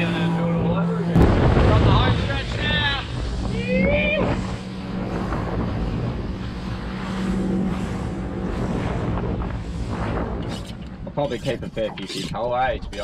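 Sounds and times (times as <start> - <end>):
boat engine running: 0.0 - 13.0
water along hull: 0.0 - 13.0
wind on microphone: 1.2 - 12.9.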